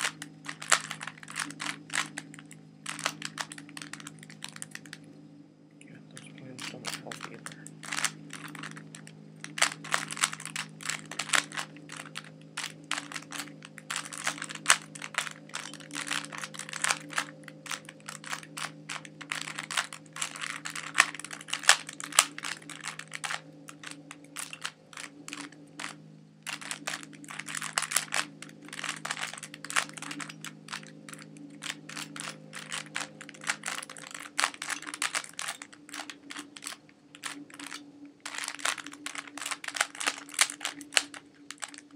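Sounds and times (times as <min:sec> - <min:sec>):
puzzle cube clicking and clacking: 0:00.0 - 0:05.0, 0:06.2 - 0:41.9.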